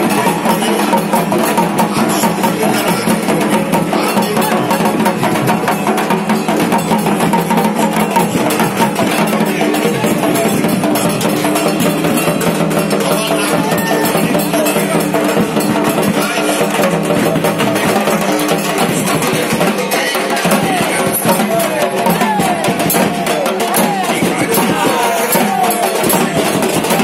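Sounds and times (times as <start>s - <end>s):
barrel drums beaten fast: 0.0s - 27.0s.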